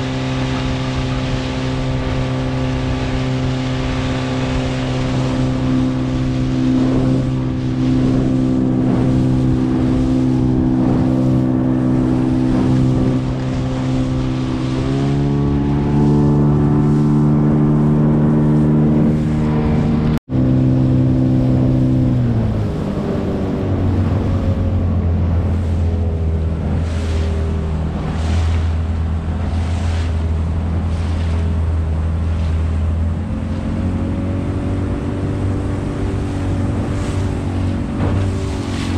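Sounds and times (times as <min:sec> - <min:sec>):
outboard motor running: 0:00.0 - 0:38.9
water noise: 0:00.0 - 0:38.9
wind noise: 0:00.0 - 0:38.9.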